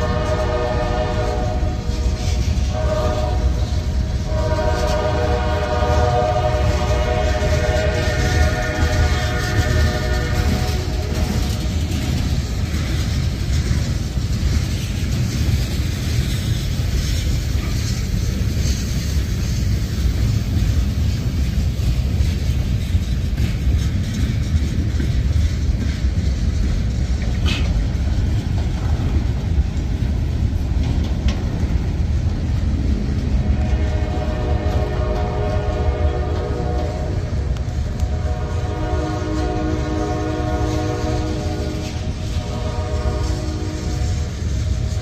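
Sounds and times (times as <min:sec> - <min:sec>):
freight train wheels rumbling on rail: 0:00.0 - 0:45.0
train cars clattering and clanking: 0:00.0 - 0:45.0.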